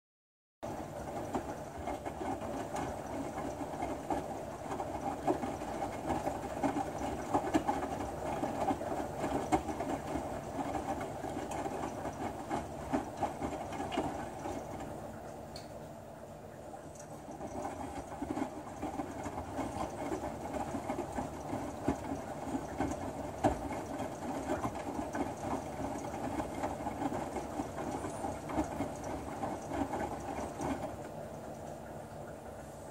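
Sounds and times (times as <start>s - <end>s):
washing machine drum tumbling: 0.6s - 15.2s, 16.9s - 32.0s
water sloshing: 0.7s - 32.8s.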